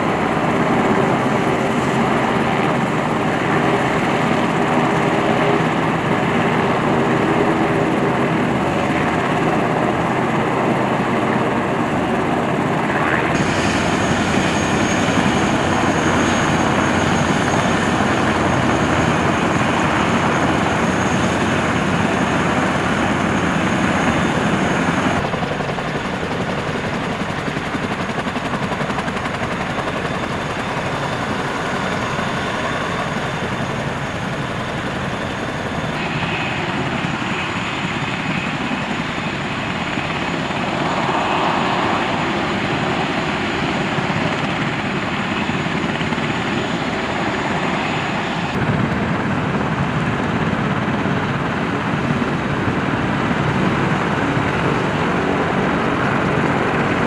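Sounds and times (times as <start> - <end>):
helicopter rotor and turbine noise: 0.0 - 57.0.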